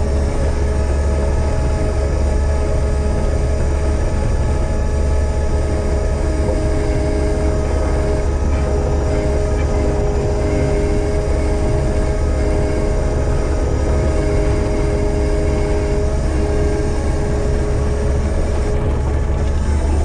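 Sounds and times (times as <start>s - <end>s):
diesel engine rumbling: 0.0s - 20.0s
steady whine: 0.0s - 20.0s.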